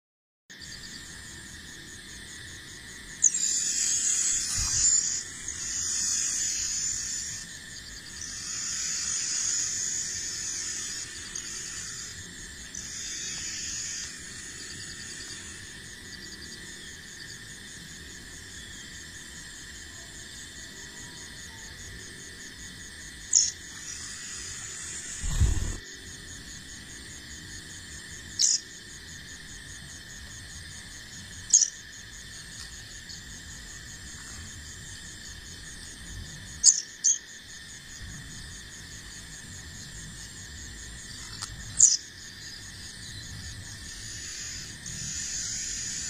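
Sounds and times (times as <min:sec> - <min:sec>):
insects trilling: 0:00.5 - 0:46.0.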